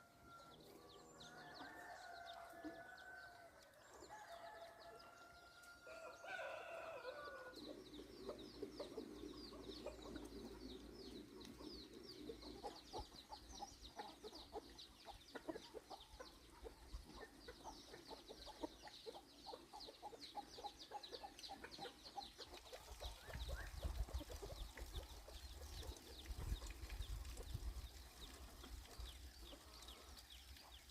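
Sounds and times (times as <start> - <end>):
chickens clucking and cheeping: 0.0 - 30.9.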